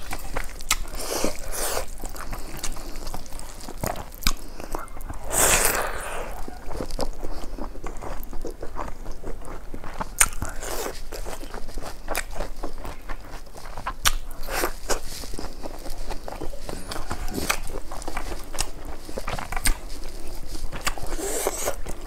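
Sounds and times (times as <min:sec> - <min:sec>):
crunchy bites: 0:00.0 - 0:22.0
person chewing with wet mouth clicks: 0:00.0 - 0:22.0.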